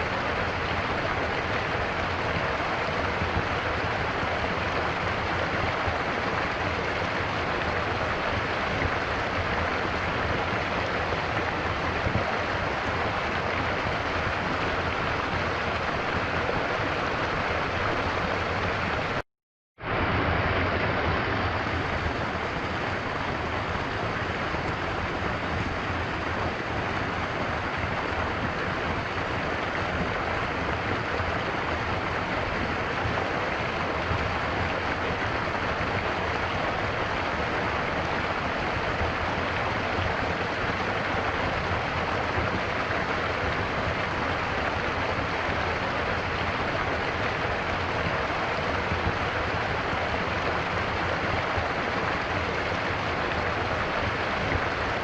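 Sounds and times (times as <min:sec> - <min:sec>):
stream flowing: 0:00.0 - 0:19.2, 0:19.8 - 0:55.0.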